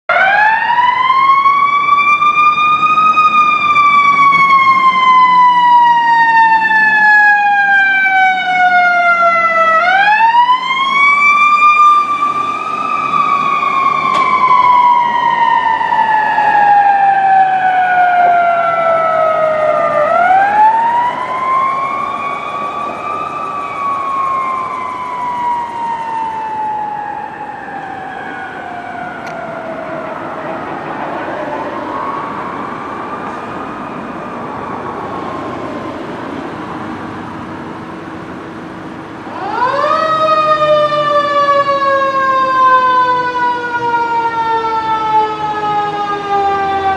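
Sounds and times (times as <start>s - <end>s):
fire siren wailing: 0.1s - 46.9s.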